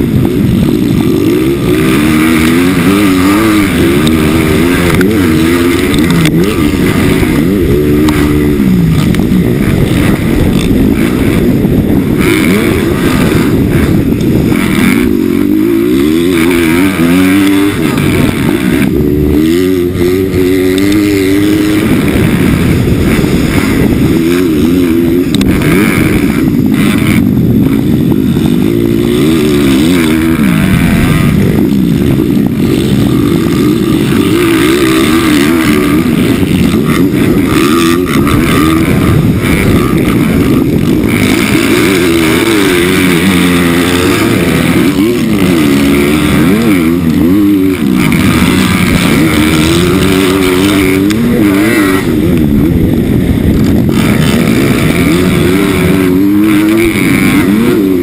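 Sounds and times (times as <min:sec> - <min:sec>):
minibike engine revving: 0:00.0 - 0:58.0.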